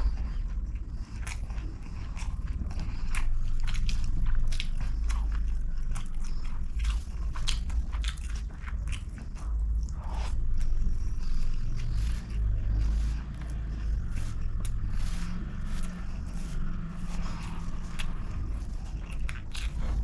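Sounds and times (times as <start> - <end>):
close chewing with wet smacks: 0.0 - 20.0.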